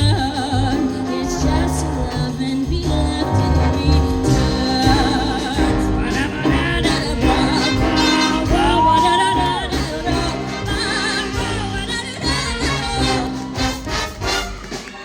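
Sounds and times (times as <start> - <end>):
person singing with vibrato: 0.0 - 13.8
big band jazz: 0.0 - 15.0.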